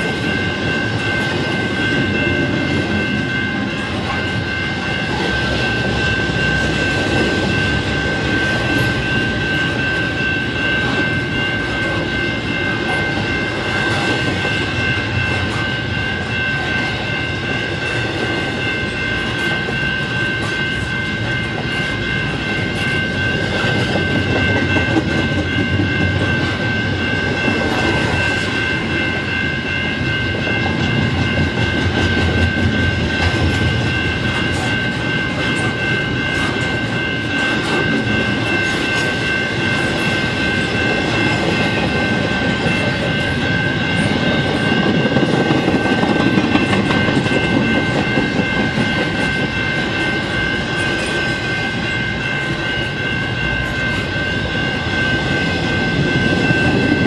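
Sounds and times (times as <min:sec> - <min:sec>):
crossing bell ringing: 0:00.0 - 0:57.0
train wheels rumbling on rail: 0:00.0 - 0:57.0.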